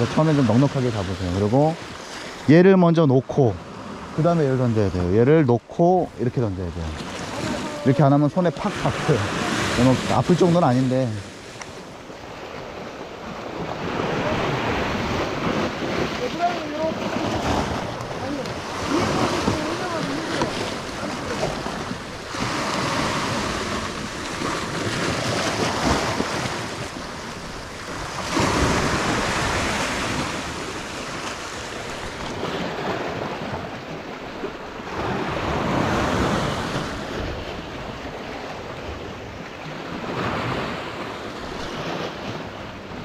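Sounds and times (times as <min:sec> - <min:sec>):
waves washing on rocky shore: 0:00.0 - 0:43.0.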